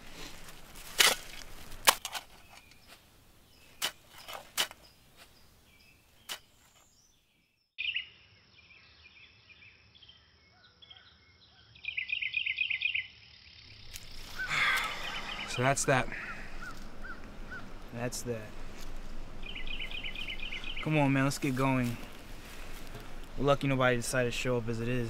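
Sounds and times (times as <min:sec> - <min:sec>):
birds chirping: 0:02.2 - 0:25.0.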